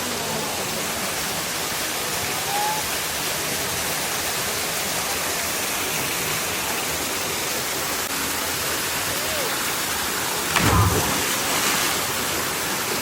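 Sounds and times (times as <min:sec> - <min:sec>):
waterfall pouring into a pool: 0:00.0 - 0:13.0.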